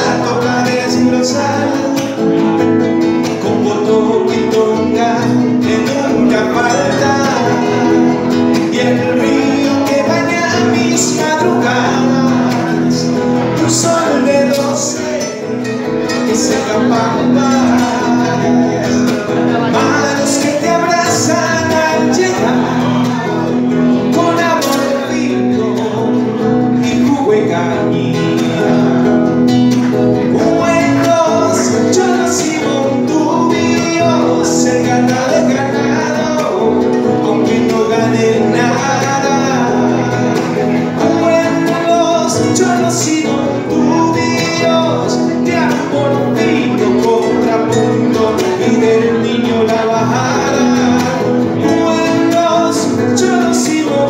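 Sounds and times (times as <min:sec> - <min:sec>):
acoustic guitars: 0:00.0 - 0:54.0
man and woman singing: 0:00.0 - 0:54.0.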